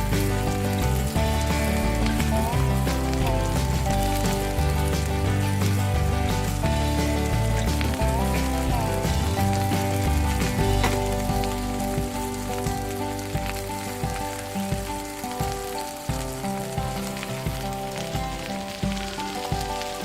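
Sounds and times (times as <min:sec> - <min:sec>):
background music: 0:00.0 - 0:20.0
food sizzling on a grill: 0:00.0 - 0:20.0.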